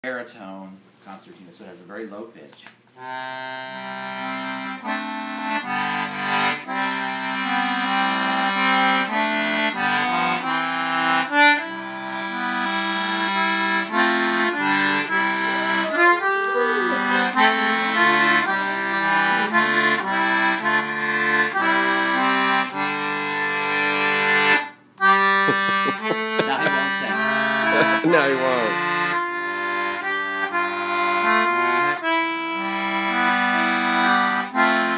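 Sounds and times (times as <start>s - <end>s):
concertina playing chordal tune: 3.2s - 24.4s, 25.0s - 34.9s.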